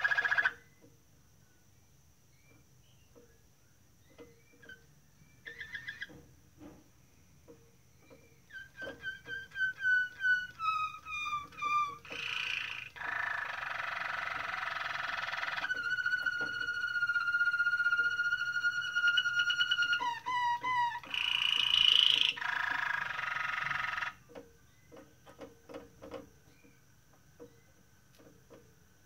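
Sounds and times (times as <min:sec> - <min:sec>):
canary singing trills: 0:00.0 - 0:06.2, 0:07.0 - 0:28.2.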